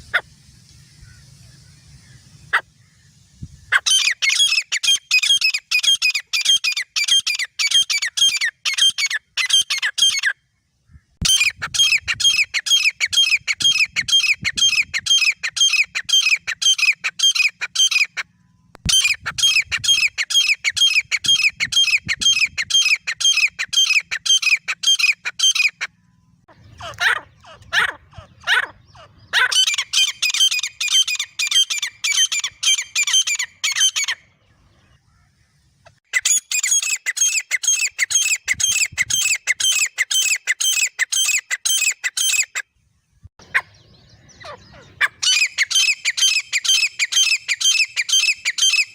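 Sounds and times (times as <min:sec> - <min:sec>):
francolin rapid high calls: 0:00.0 - 0:10.5, 0:11.2 - 0:42.7, 0:43.4 - 0:48.9.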